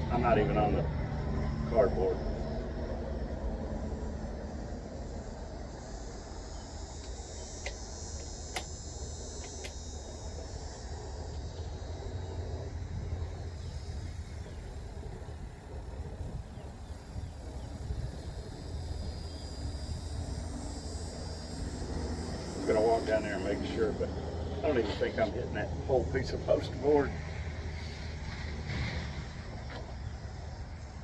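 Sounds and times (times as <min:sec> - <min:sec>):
insects trilling: 0:00.0 - 0:31.0
road traffic rumble: 0:00.0 - 0:31.0.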